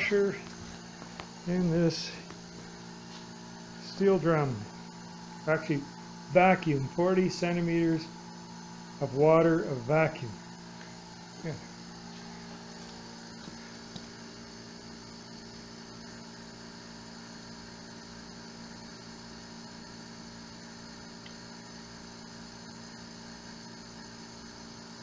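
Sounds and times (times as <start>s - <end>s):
vacuum pump humming: 0.0s - 25.0s.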